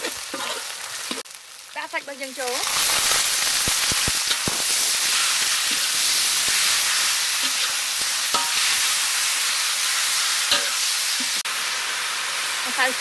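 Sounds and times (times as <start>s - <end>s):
meat sizzling in a wok: 0.0s - 13.0s.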